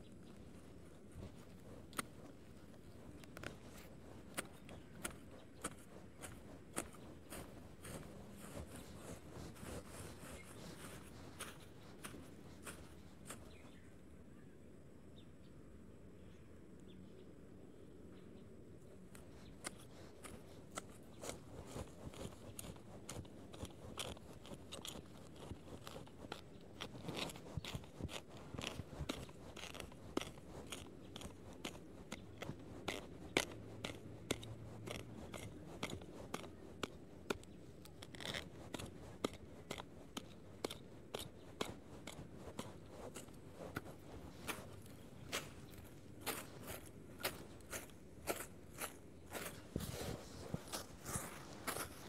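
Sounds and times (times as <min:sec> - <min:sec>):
sickle cutting grass and soil: 0:00.0 - 0:13.8, 0:19.1 - 0:52.0.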